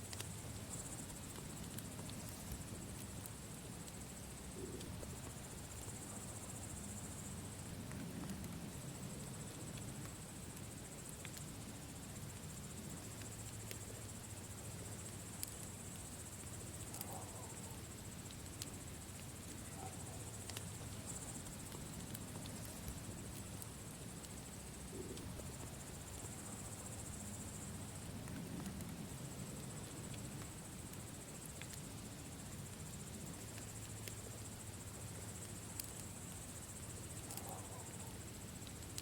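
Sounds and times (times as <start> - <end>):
campfire crackling and popping: 0.0 - 39.0
crickets chirping: 0.0 - 39.0.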